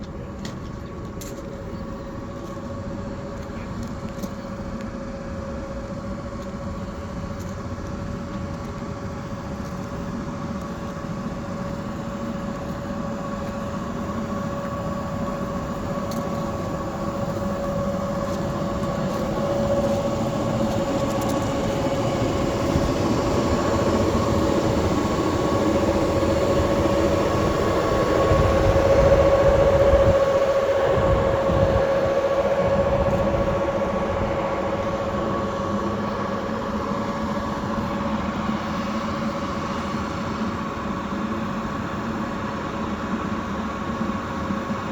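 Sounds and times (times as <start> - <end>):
subway car running on rail: 0.0 - 44.9.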